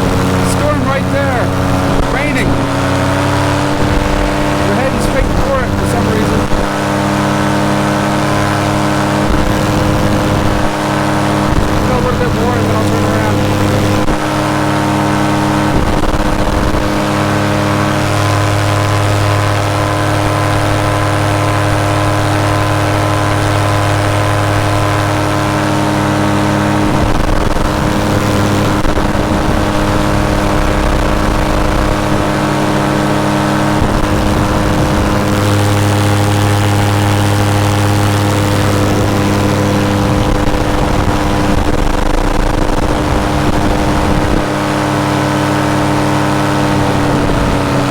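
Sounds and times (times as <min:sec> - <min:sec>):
paramotor engine and propeller: 0:00.0 - 0:47.9.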